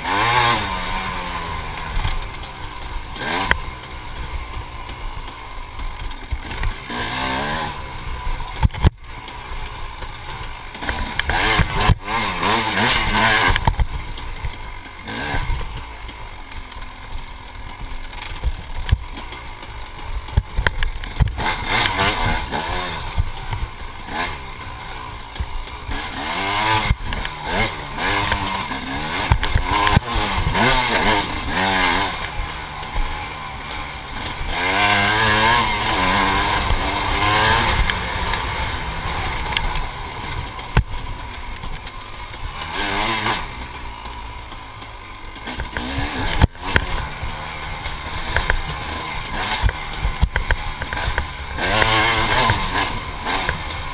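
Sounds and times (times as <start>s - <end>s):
bike knocking and rattling: 0.0s - 53.9s
dirt bike engine revving: 0.0s - 53.9s.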